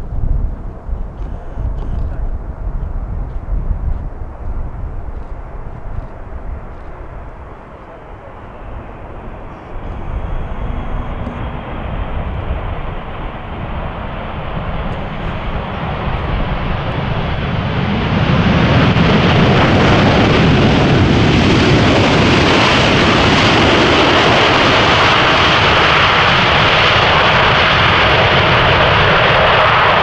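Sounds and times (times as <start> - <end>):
jet engines at takeoff thrust: 0.0 - 30.0.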